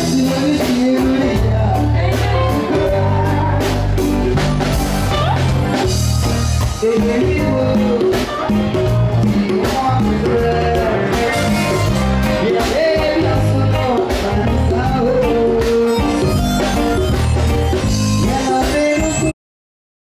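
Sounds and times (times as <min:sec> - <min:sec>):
music with drum beat and bass: 0:00.0 - 0:19.3.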